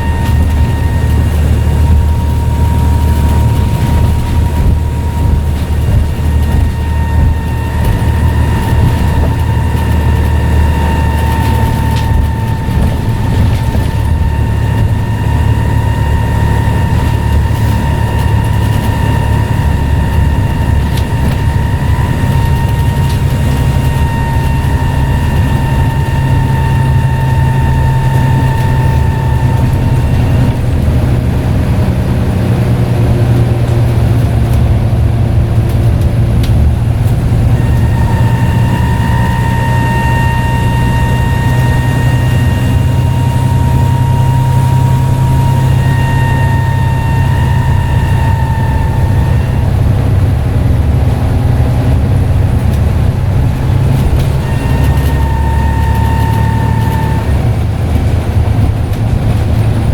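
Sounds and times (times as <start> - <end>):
turbocharger whistle: 0.0 - 35.1, 36.9 - 58.5
bus diesel engine drone: 0.0 - 59.9.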